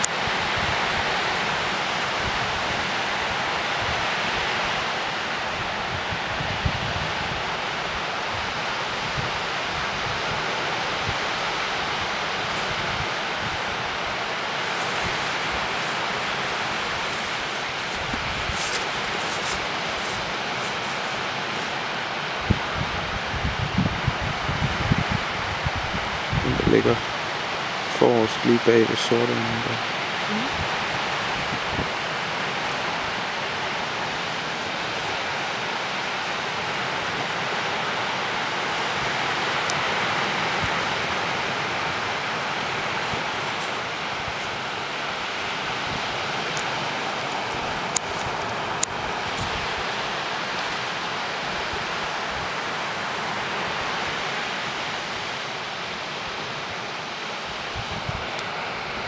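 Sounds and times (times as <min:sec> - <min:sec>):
sea surf breaking on shore: 0:00.0 - 0:59.0
wind on microphone: 0:00.0 - 0:59.0.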